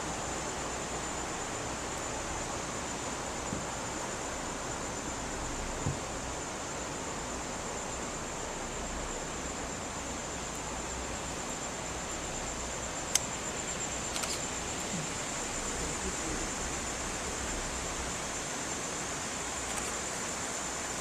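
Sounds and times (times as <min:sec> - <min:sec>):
rainforest ambience hiss: 0:00.0 - 0:21.0.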